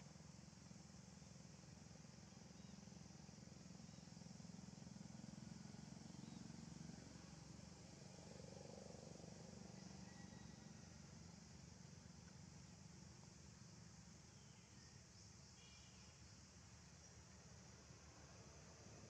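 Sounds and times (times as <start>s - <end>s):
faint low outdoor hum: 0.0s - 19.0s.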